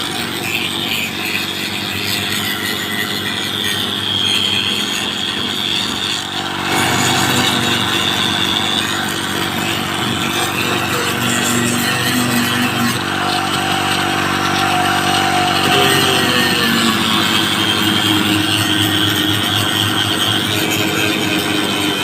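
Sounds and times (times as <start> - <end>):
power tool running: 0.0 - 22.0.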